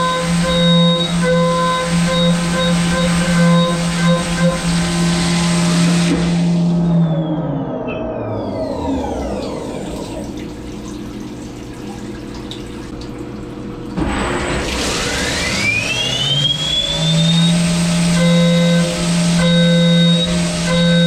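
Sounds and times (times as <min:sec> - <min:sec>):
coolant rushing: 0:00.0 - 0:06.7, 0:08.9 - 0:21.0
milling machine spindle whine: 0:00.0 - 0:10.8, 0:14.0 - 0:21.0.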